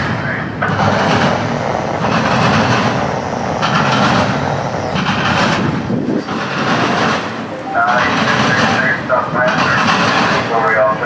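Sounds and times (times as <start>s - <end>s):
freight train wheels on rails: 0.0s - 11.0s.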